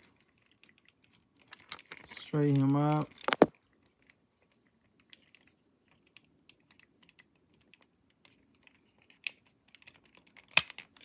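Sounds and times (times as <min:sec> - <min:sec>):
plastic toy parts clicking: 0:00.2 - 0:11.0.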